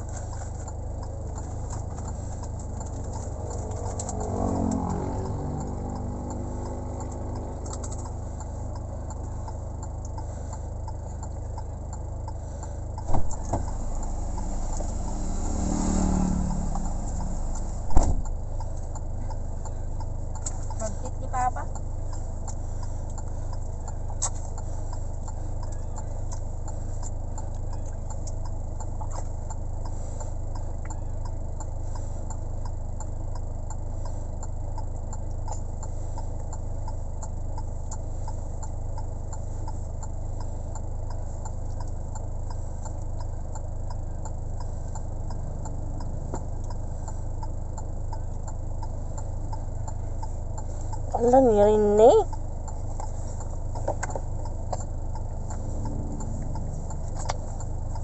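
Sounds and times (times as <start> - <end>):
light ticks and clicks: 0.0 - 13.8, 16.5 - 58.0
steady low hum: 0.0 - 58.0.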